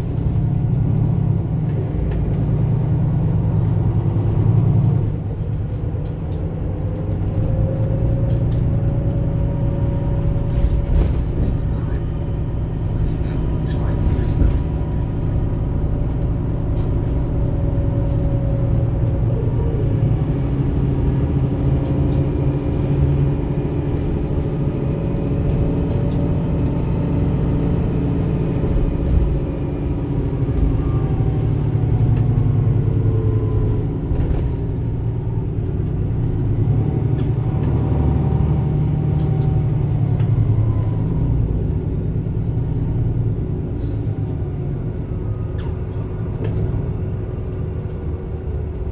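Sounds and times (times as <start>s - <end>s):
bus diesel engine rumbling: 0.0s - 48.9s.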